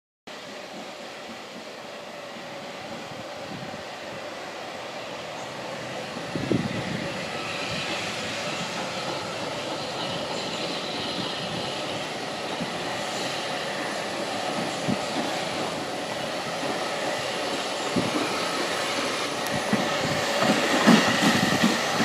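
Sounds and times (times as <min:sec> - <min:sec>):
steam locomotive running: 0:00.3 - 0:22.0.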